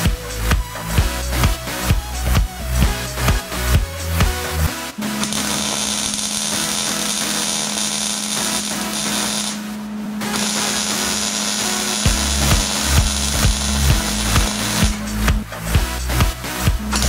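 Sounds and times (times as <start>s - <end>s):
welding arc crackling: 2.9s - 17.0s.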